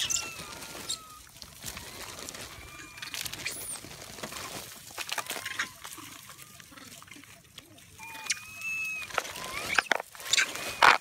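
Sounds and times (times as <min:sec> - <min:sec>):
high gliding monkey calls: 0:00.0 - 0:03.8, 0:05.1 - 0:11.0
monkeys scrabbling on gravel: 0:00.0 - 0:11.0.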